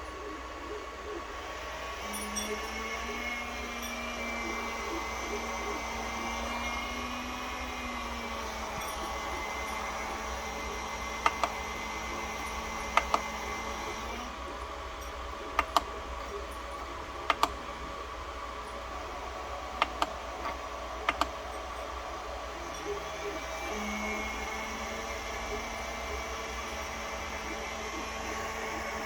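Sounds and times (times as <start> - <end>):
three d printer humming: 0.0 - 29.0
sharp clicks: 1.6 - 14.3, 15.0 - 17.8, 18.7 - 27.4.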